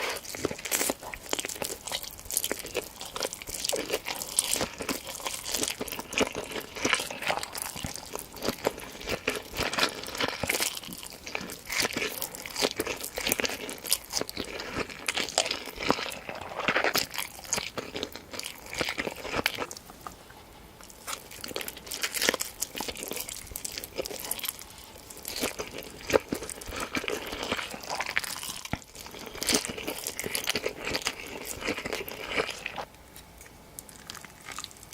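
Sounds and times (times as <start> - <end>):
crunchy chewing of crisp food: 0.0 - 34.9.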